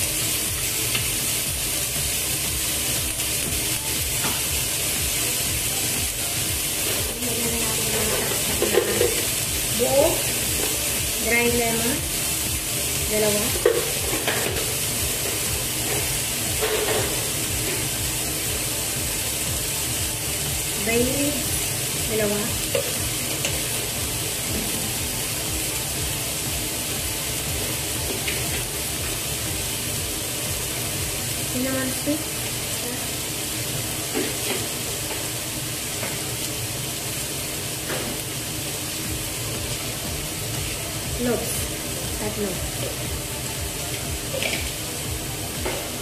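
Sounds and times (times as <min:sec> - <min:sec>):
onion sizzling in oil: 0:00.0 - 0:46.0.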